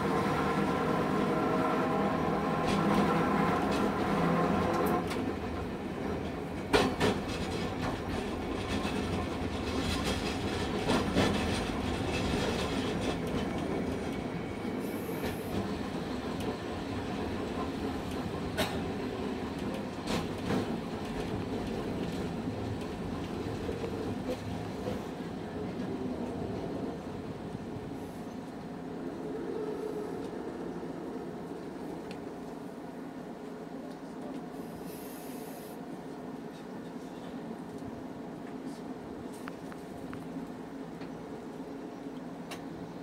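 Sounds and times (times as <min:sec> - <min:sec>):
streetcar motor and wheel noise: 0:00.0 - 0:43.0.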